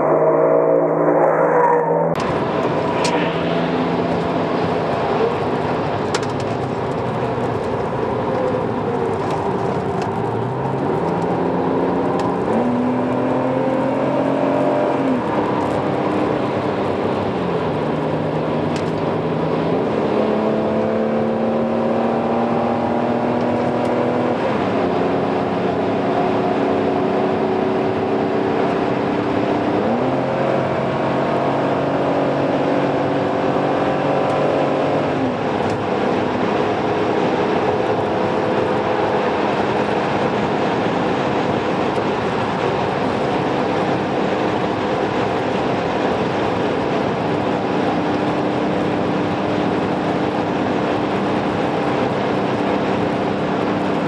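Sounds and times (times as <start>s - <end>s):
car engine at speed: 0.0s - 54.0s
road and wind noise: 0.0s - 54.0s.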